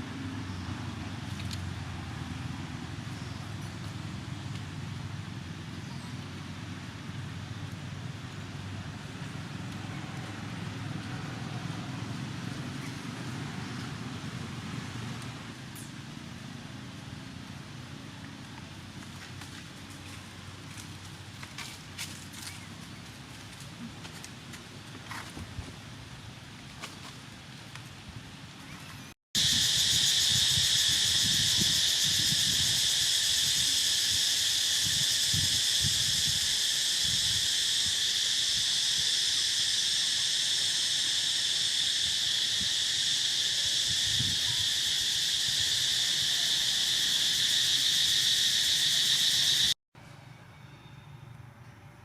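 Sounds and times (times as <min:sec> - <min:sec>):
insects droning: 0:00.0 - 0:25.3, 0:29.4 - 0:49.8.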